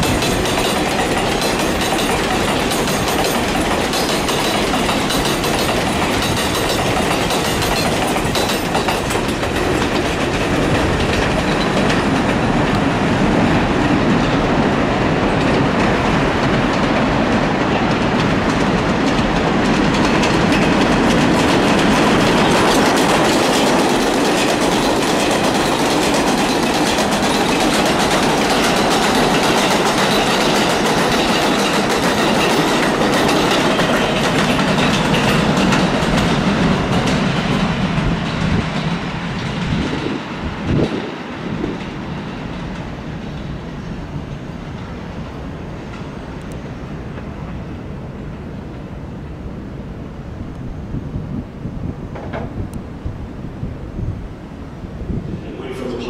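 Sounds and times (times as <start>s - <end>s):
train wheels clacking on rails: 0.0s - 48.8s, 52.1s - 52.8s.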